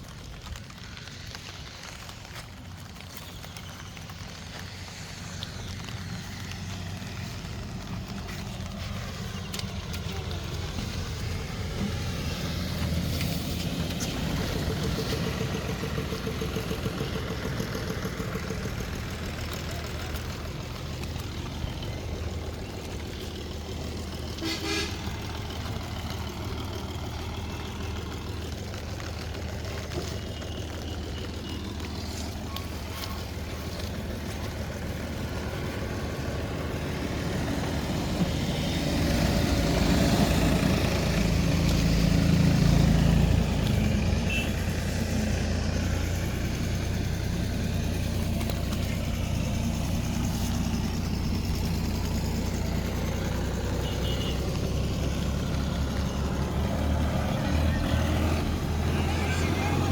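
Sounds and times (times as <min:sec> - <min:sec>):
motor engine running: 0:00.0 - 0:59.9.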